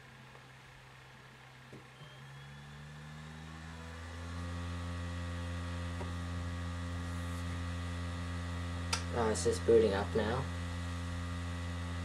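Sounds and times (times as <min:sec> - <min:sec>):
computer whirring hum: 0:00.0 - 0:12.0.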